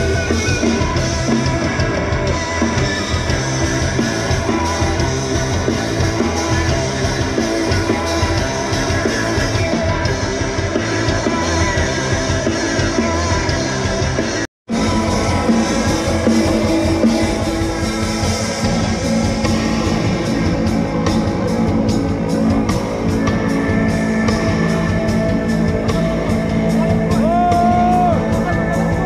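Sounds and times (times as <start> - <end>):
drums: 0.0 - 29.0
electric guitar: 0.0 - 29.0.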